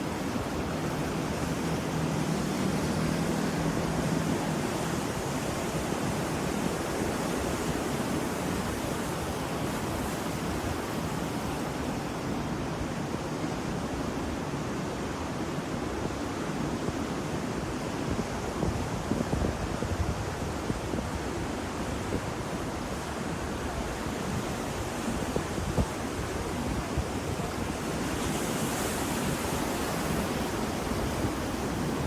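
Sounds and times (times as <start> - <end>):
ocean waves washing on shore: 0.0 - 32.0.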